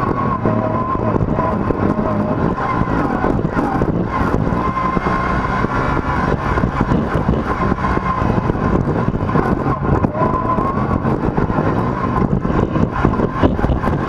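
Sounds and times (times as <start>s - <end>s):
engine running: 0.0s - 14.0s
high whine: 0.0s - 14.0s.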